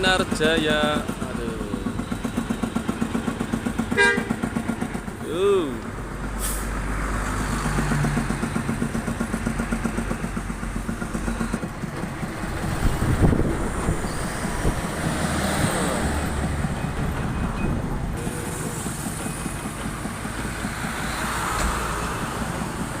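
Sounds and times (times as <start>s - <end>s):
heavy traffic rumble: 0.0s - 23.0s.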